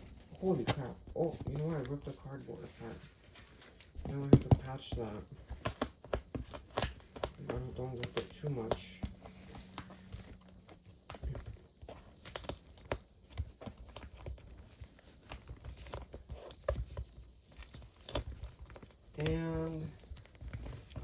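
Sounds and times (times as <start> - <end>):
cardboard and tape crinkling: 0.0 - 21.0.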